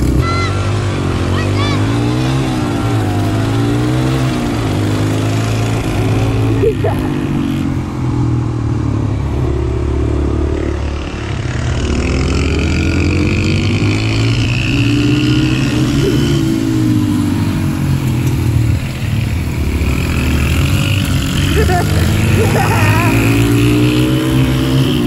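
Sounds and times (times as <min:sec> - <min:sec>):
pit bike engines revving: 0:00.0 - 0:25.0.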